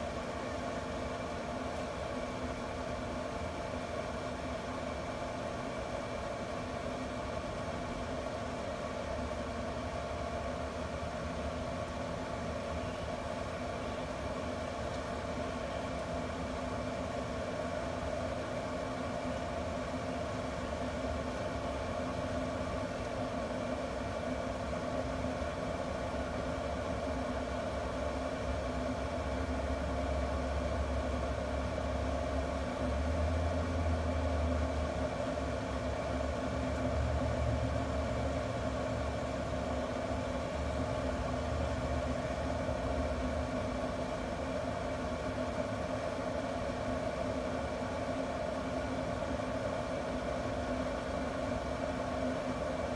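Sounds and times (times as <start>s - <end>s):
grill fan hum: 0.0s - 52.9s.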